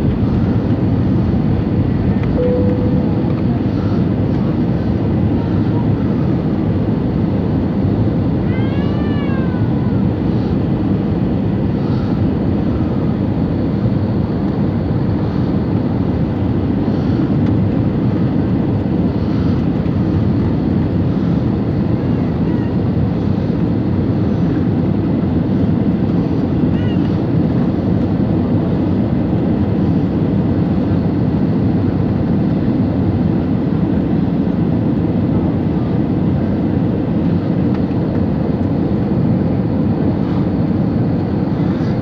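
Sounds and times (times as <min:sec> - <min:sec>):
jet engine cabin rumble: 0:00.0 - 0:42.0.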